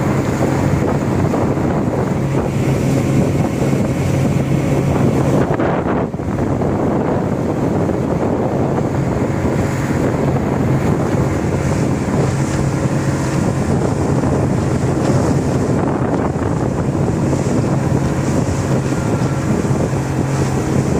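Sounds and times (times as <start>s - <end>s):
boat engine humming: 0.0s - 20.9s
water rushing past hull: 0.0s - 20.9s
wind buffeting microphone: 0.0s - 20.9s.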